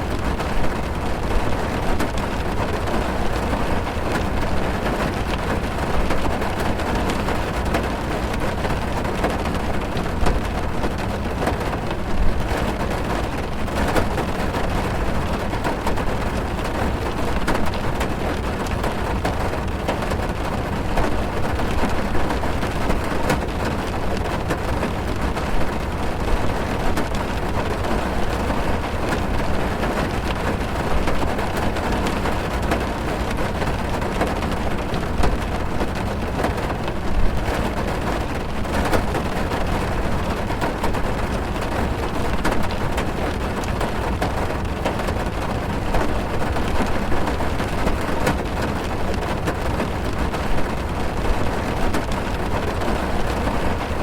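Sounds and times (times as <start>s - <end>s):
heavy rain on car roof: 0.0s - 54.0s.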